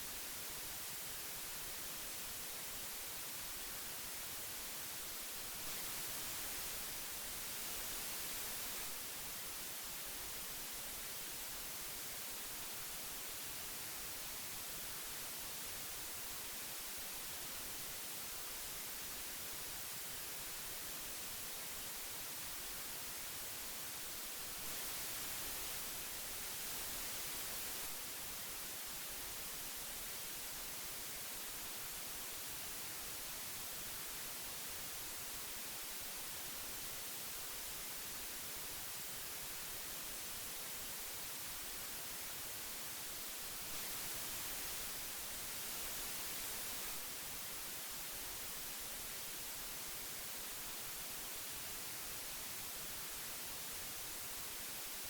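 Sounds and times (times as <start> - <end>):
magnetic tape hiss: 0.0 - 55.0.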